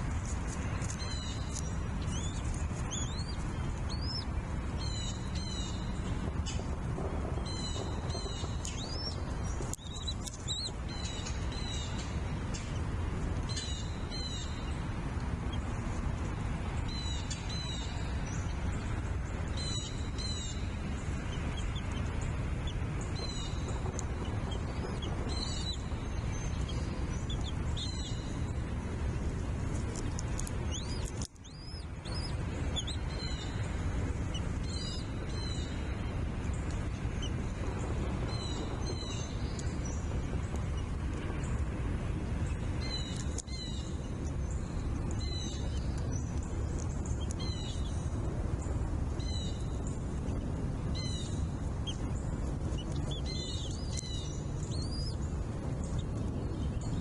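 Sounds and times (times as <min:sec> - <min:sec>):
birds chirping: 0:00.0 - 0:57.0
wind rumble on microphone: 0:00.0 - 0:57.0.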